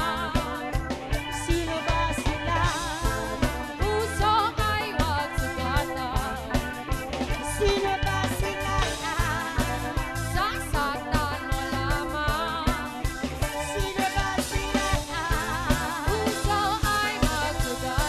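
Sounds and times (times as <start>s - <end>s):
pop song with drums and guitar: 0.0s - 18.0s.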